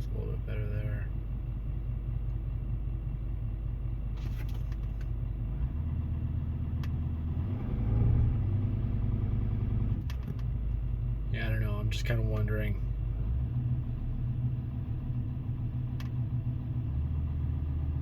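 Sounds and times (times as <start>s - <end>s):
diesel engine idling: 0.0s - 7.6s, 8.2s - 18.0s.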